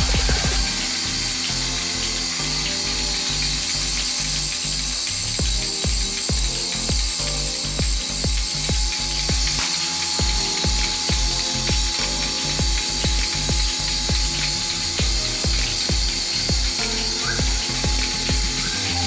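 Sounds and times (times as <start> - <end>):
milking machine pulsator clicking: 2.2 - 19.0.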